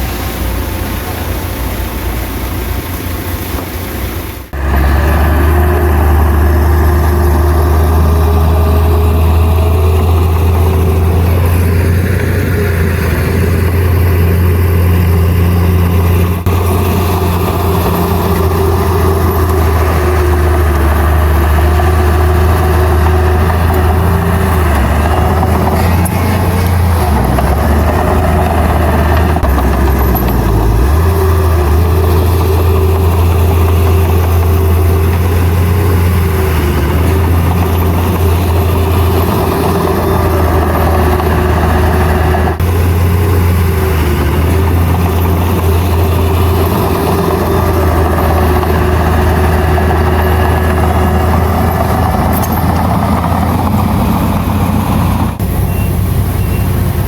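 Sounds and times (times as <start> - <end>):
heavy machine diesel engine: 0.0 - 57.0.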